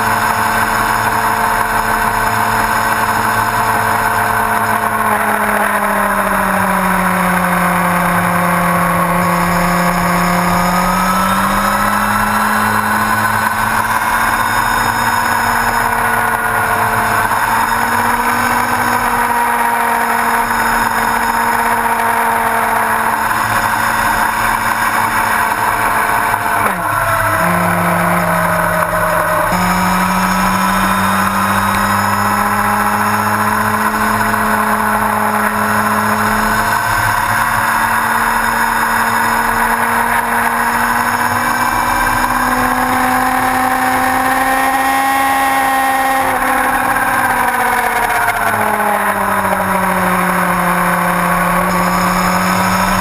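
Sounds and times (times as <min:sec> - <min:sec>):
motorcycle engine cruising: 0:00.0 - 0:53.0
wind and road noise: 0:00.0 - 0:53.0.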